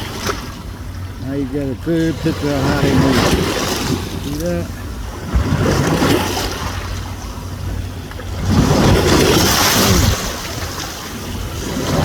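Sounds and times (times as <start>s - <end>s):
motorboat engine hum: 0.0s - 12.0s
sea water sloshing: 0.0s - 12.0s
wind: 0.0s - 12.0s.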